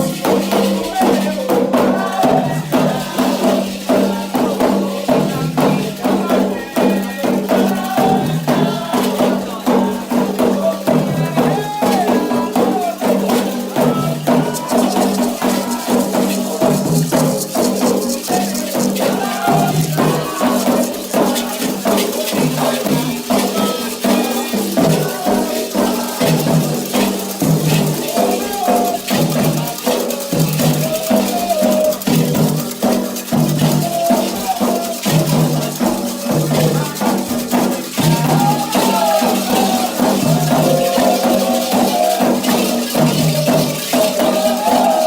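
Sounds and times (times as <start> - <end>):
hand drums: 0.0 - 45.0
rattling clicking percussion: 0.0 - 45.0
voices singing: 0.0 - 45.0.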